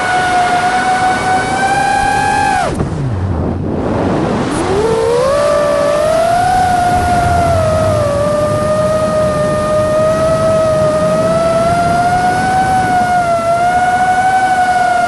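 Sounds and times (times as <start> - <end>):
motorboat engine revving: 0.0 - 15.0
rushing wind and water: 0.0 - 15.0.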